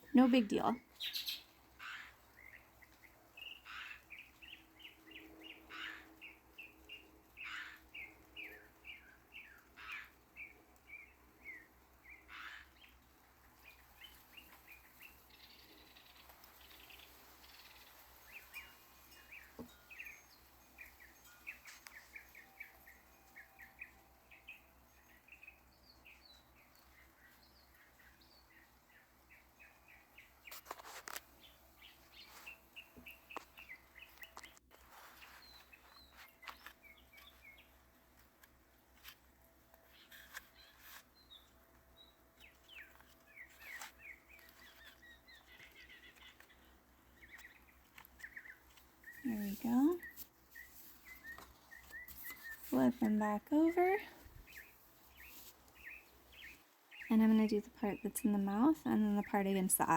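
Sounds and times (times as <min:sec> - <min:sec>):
faint birds chirping: 0:00.0 - 0:59.9.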